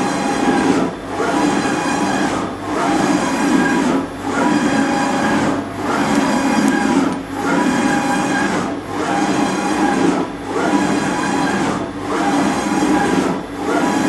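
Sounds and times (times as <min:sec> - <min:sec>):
surface grinder running: 0:00.0 - 0:14.0.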